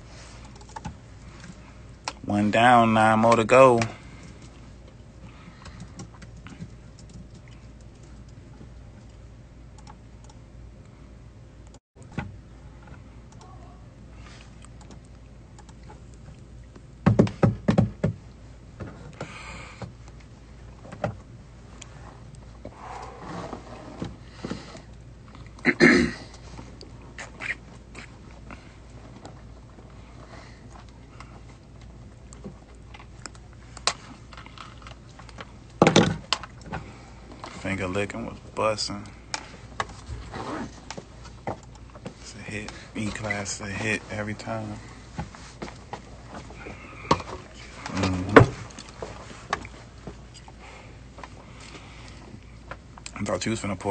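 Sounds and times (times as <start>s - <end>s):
low room hum: 0.0s - 53.9s.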